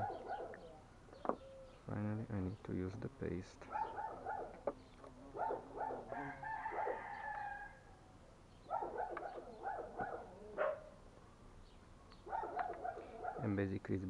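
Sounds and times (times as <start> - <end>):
bird calls: 0.0 - 2.9, 3.6 - 7.8, 8.5 - 13.6.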